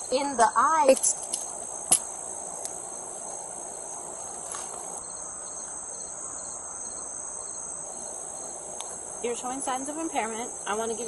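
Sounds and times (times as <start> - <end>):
crickets trilling: 0.0 - 11.0
insect pulsing call: 0.0 - 11.0.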